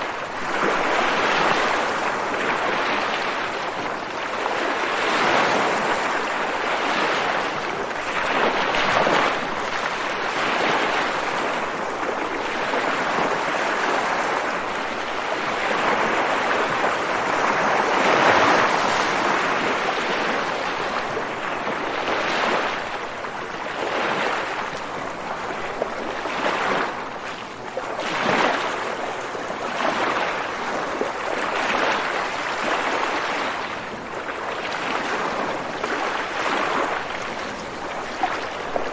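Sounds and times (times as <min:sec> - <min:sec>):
water waves washing: 0:00.0 - 0:38.9.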